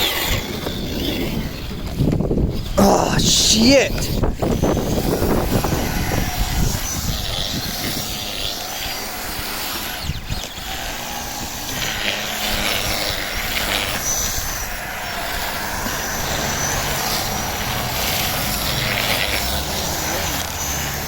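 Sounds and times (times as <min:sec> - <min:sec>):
toy truck electric motor whining: 0:00.0 - 0:21.0.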